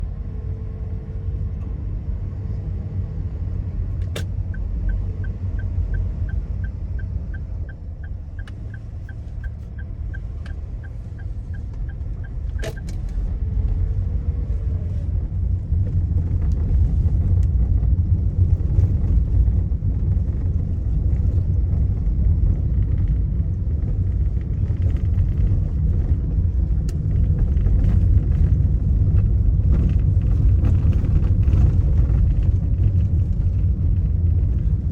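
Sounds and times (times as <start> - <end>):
vehicle rumble from inside: 0.0 - 34.9.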